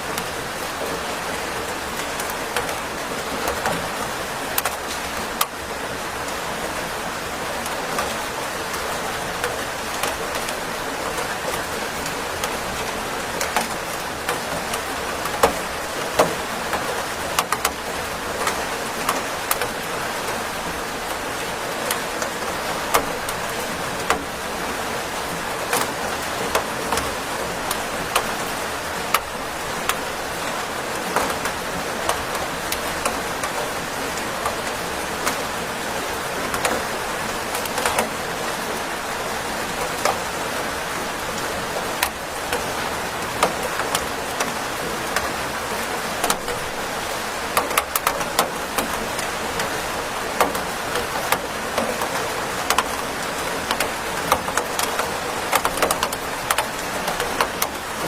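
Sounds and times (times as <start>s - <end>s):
raindrops tapping a surface: 0.0s - 58.0s.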